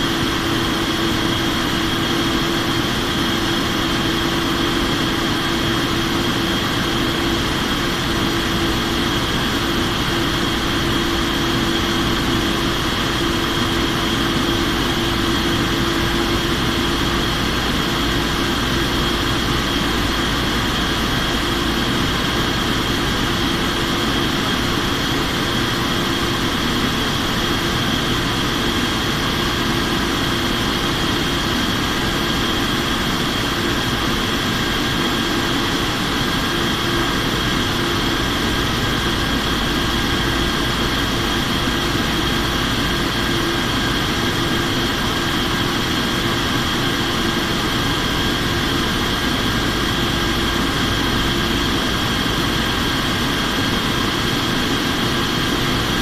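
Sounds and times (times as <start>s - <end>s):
aircraft cabin drone: 0.0s - 56.0s.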